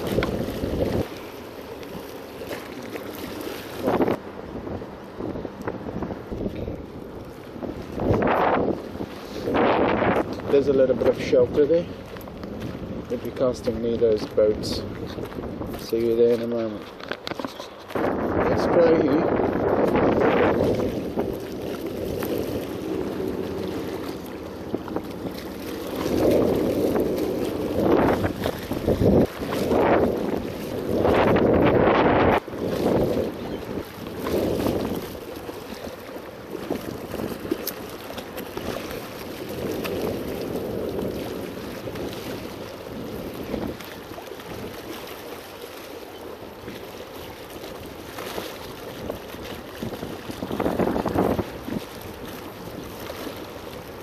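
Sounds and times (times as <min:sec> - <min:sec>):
water lapping: 0:00.0 - 0:54.0
wind buffeting microphone: 0:00.0 - 0:54.0.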